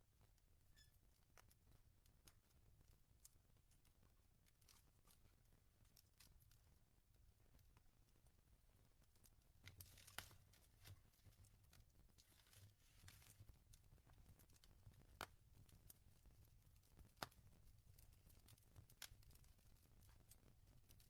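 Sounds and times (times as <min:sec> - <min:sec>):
wood fire crackling and popping: 0:01.3 - 0:21.0.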